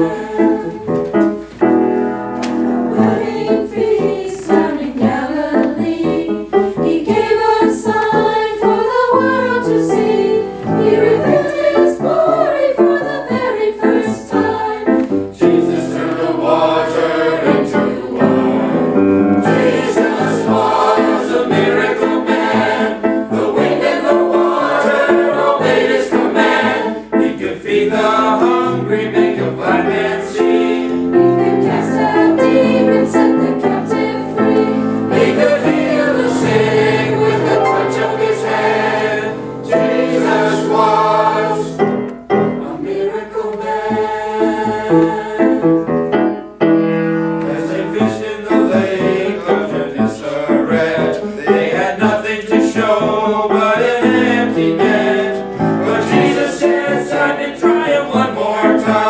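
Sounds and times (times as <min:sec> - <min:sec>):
church choir singing: 0:00.0 - 0:59.0.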